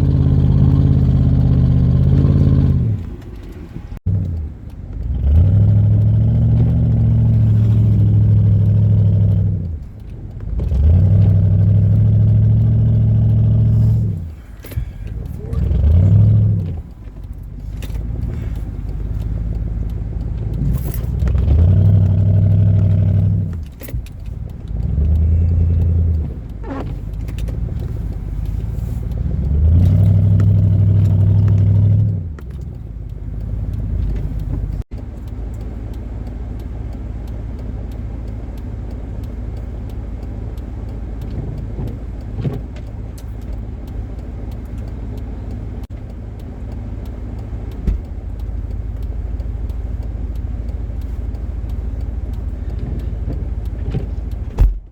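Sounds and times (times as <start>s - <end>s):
car engine revving: 0.0s - 54.9s.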